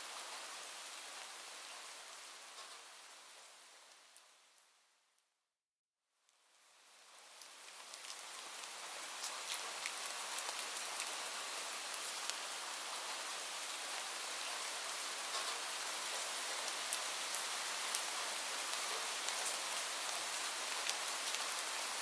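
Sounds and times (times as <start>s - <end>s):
steady rain falling: 0.0s - 5.0s, 6.3s - 22.0s.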